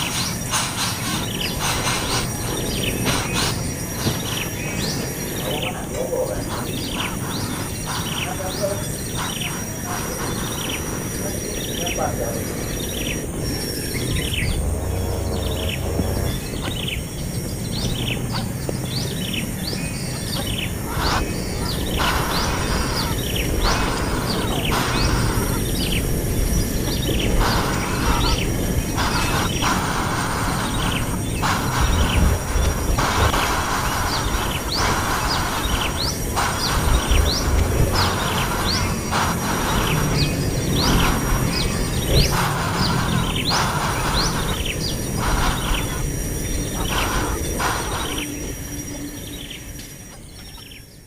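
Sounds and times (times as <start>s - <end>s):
harsh hiss: 0.0s - 51.0s
small birds chirping: 0.0s - 51.0s
steady low rumble: 0.0s - 51.0s.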